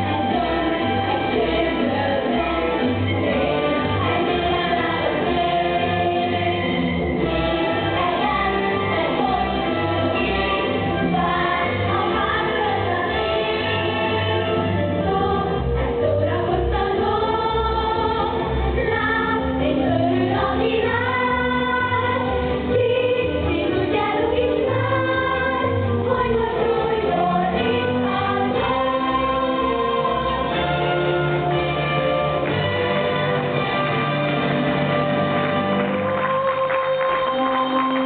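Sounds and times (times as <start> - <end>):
group of voices singing: 0.0 - 33.7, 35.5 - 38.0.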